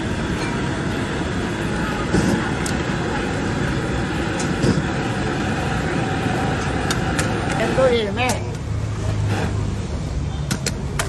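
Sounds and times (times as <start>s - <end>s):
stove burner low rumble: 0.0s - 11.0s.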